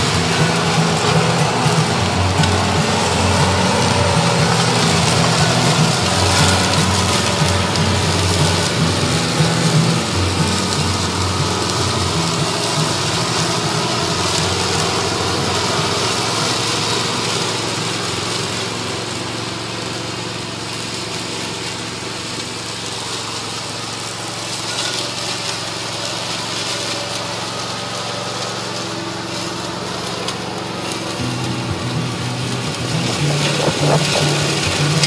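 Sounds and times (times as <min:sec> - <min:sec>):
riding mower cutting grass: 0:00.0 - 0:35.0.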